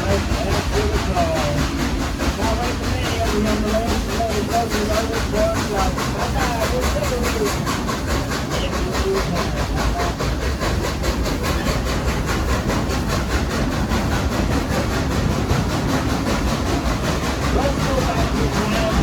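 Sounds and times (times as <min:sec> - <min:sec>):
rumble of rolling coach: 0:00.0 - 0:19.0
steam locomotive exhaust beats: 0:00.0 - 0:19.0.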